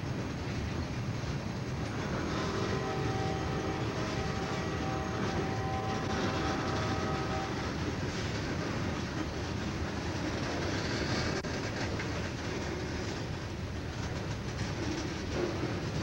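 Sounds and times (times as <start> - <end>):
steel wheels rolling on rail: 0.0 - 16.0
wheels clicking over rail joints: 0.0 - 16.0.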